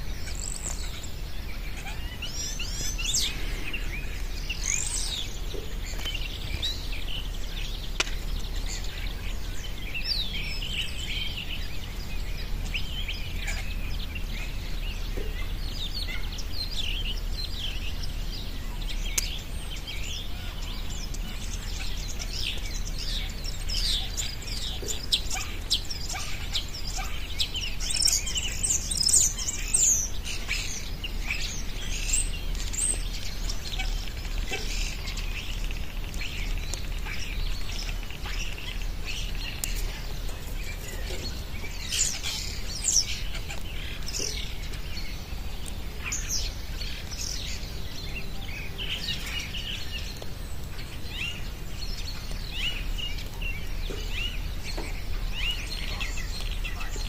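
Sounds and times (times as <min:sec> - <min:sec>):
songbirds chirping and singing: 0:00.0 - 0:57.0
steady low rumble: 0:00.0 - 0:57.0.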